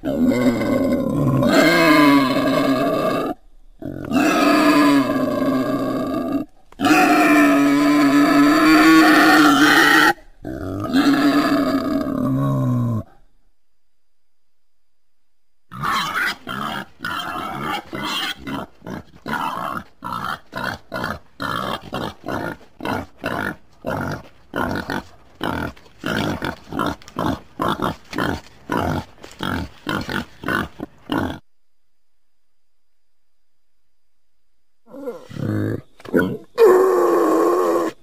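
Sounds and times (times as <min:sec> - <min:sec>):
wild boar grunting: 0:00.0 - 0:13.2, 0:15.7 - 0:31.4, 0:34.9 - 0:38.0.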